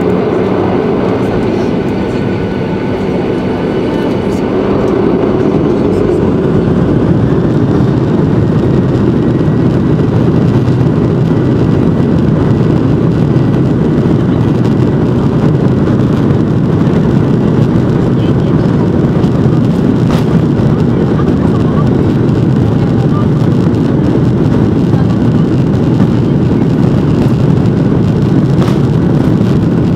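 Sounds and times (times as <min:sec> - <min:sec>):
jet engines rumbling in cabin: 0:00.0 - 0:29.9.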